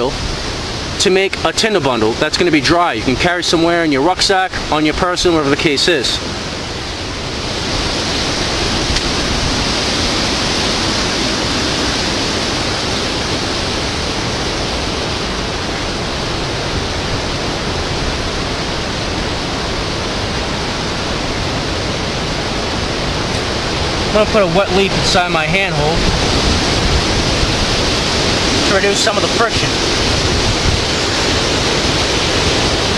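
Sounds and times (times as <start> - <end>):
heavy rain hiss: 0.0 - 32.9
low rumble of wind: 0.0 - 32.9.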